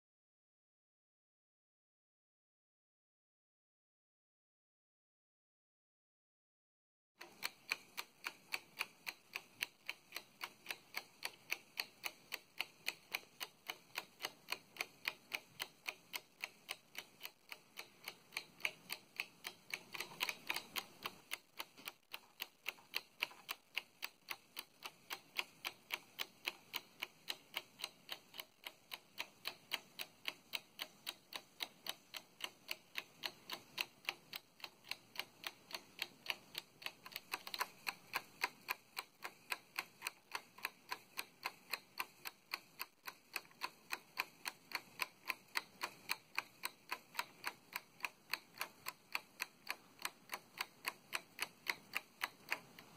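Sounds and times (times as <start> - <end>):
clockwork mechanism ticking: 7.2 - 52.9.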